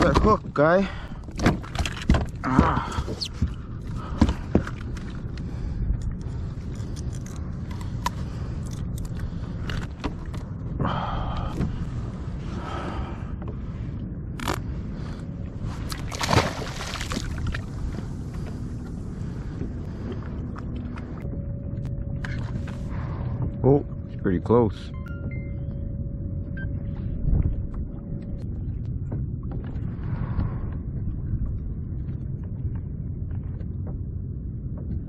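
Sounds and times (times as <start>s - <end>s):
low wind: 0.0s - 35.0s
water noise: 0.0s - 35.0s.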